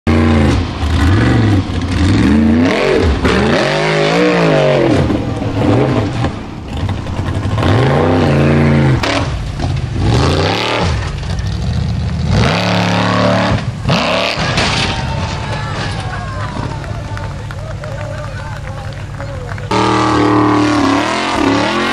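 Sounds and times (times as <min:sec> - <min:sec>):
buggy engine revving hard: 0:00.1 - 0:15.5, 0:19.5 - 0:21.9.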